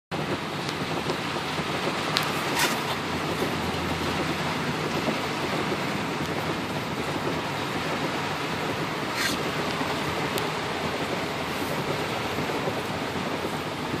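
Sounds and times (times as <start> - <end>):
vehicle driving through rain: 0.1 - 14.0.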